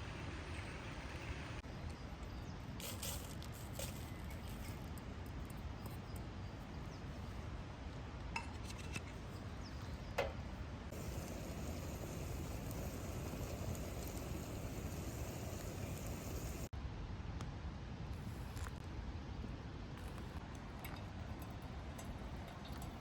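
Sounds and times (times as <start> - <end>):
low outdoor background noise: 0.0 - 23.0.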